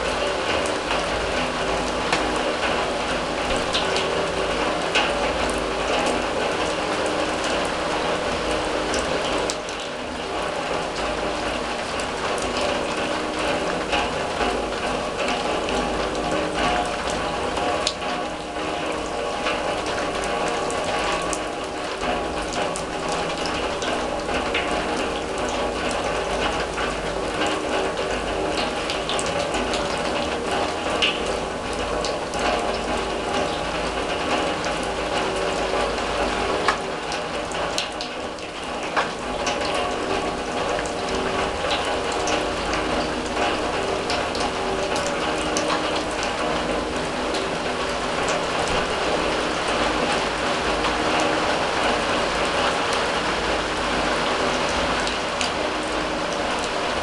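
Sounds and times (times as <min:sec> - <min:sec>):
rain on a steel drum: 0:00.0 - 0:57.0.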